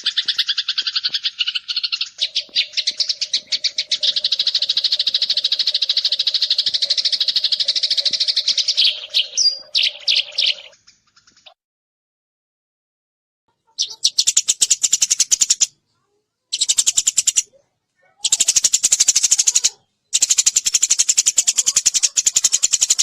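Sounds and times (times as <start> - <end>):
sparrows chirping: 0.0 - 11.6, 13.6 - 23.0.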